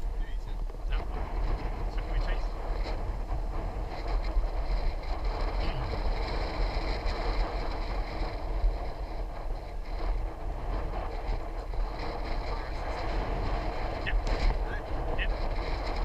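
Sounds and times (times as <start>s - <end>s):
bicycle tyre road noise: 0.0s - 16.0s
wind rush on microphone: 0.0s - 16.0s.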